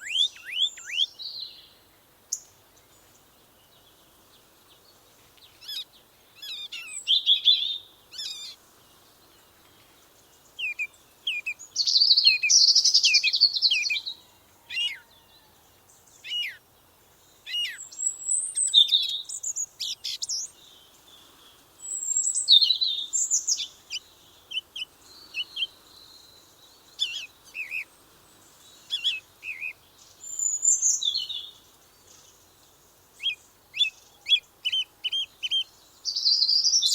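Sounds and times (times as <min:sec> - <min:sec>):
songbirds chirping and singing: 0:02.4 - 0:36.9.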